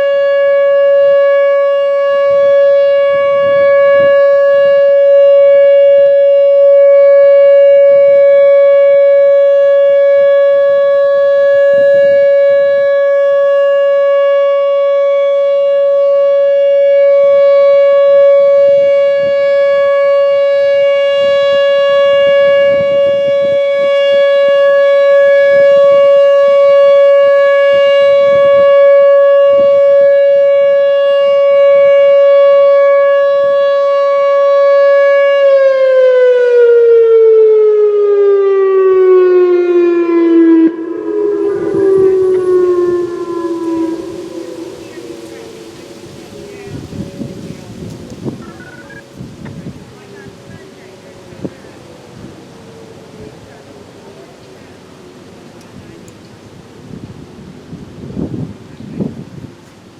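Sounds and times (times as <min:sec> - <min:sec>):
electronic siren steady tone: 0:00.0 - 0:59.9.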